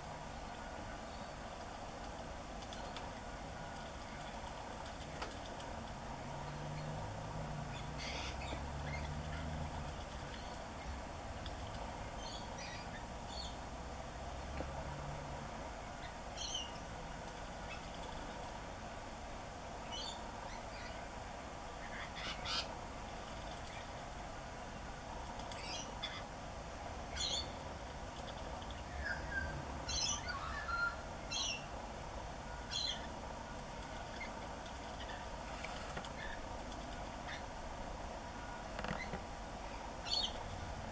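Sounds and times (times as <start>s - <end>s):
background noise: 0.0s - 40.9s.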